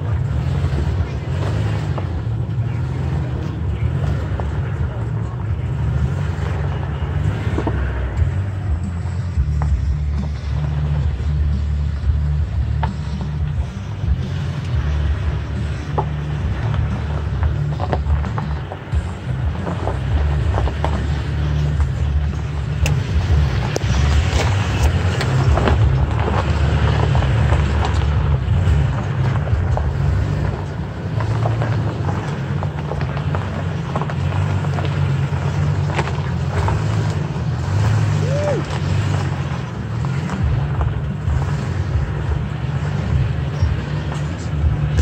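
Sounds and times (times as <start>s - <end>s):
low engine rumble: 0.0s - 45.0s
tyres crunching over gravel: 0.0s - 45.0s.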